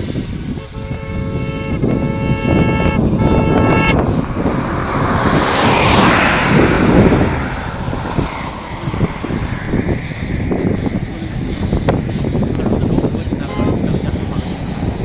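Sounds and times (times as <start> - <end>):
model jet fan passing overhead: 0.0 - 15.0.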